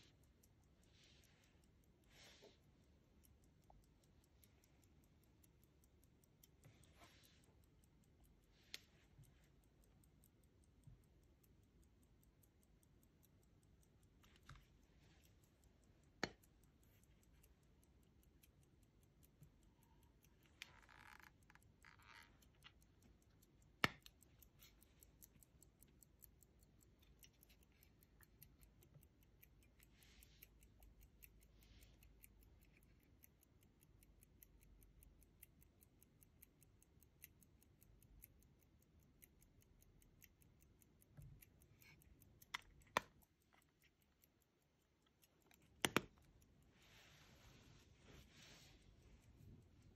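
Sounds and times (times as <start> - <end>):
pocket watch ticking: 0.0 - 49.9.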